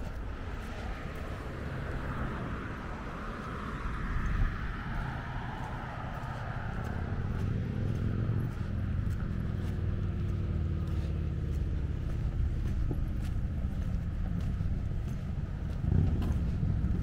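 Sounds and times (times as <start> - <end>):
car tyre noise: 0.0 - 17.0
steady low rumble: 0.0 - 17.0.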